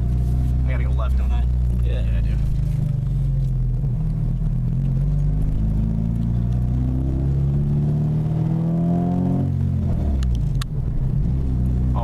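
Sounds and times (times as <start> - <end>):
car engine revs climbing: 0.0 - 12.0.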